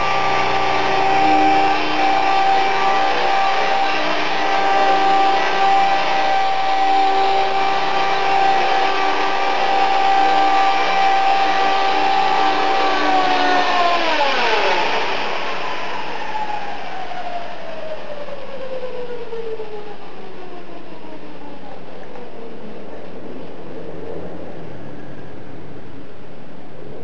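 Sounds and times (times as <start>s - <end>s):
rc helicopter rotor whine: 0.0s - 27.0s.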